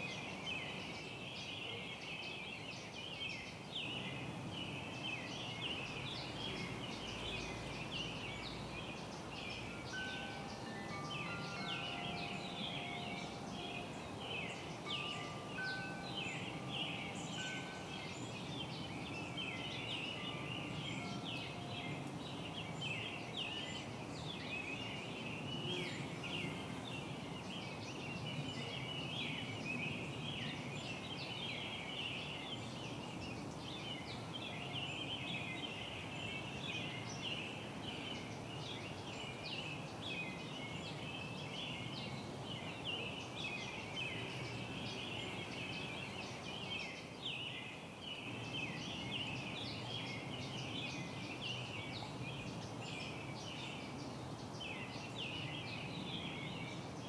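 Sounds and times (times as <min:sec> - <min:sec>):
low background noise: 0:00.0 - 0:57.0
small birds chirping: 0:00.0 - 0:57.0.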